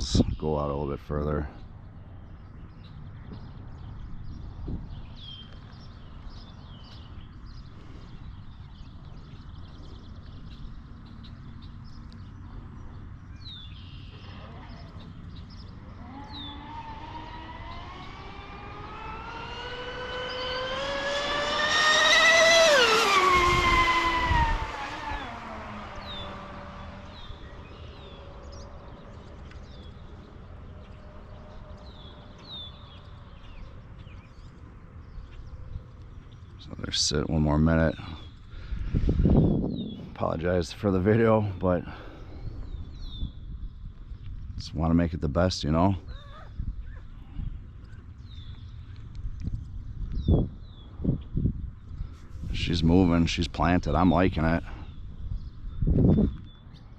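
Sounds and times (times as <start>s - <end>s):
birds chirping: 0.0s - 56.9s
motor engine passing by: 1.2s - 43.3s, 44.7s - 56.9s.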